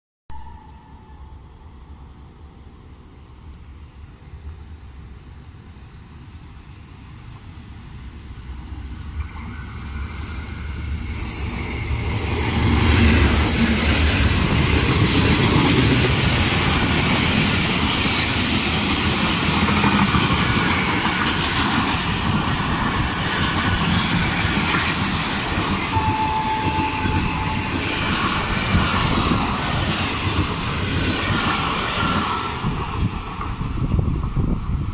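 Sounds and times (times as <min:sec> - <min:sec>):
train passing with clattering wheels: 0:00.3 - 0:34.9.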